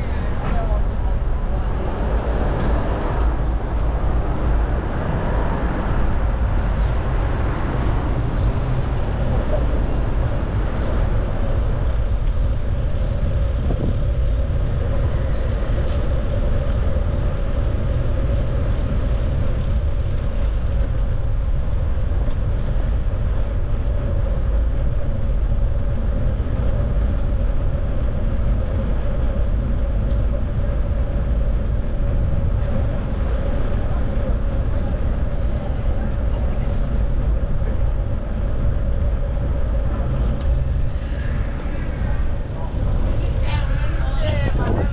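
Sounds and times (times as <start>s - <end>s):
bicycle road noise: 0.0s - 44.9s
city street traffic: 0.0s - 44.9s
wind on microphone: 0.0s - 44.9s.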